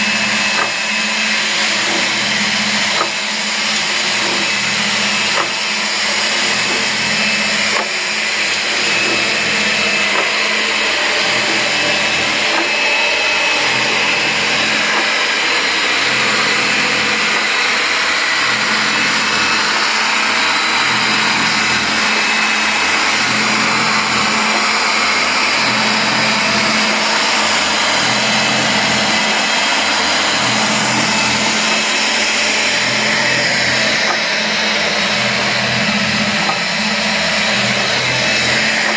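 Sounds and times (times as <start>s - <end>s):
electric pipe threader running: 0.0s - 38.9s.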